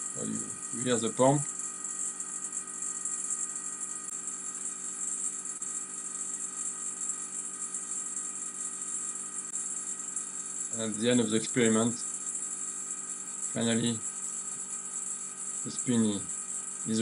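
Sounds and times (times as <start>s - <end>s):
vacuum pump humming with whine: 0.0s - 17.0s.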